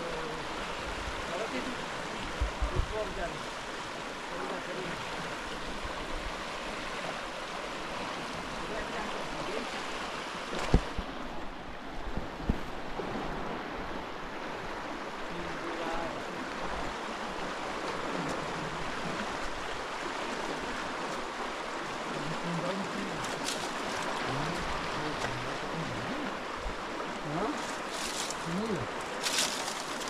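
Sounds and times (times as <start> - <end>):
river rushing: 0.0 - 30.0.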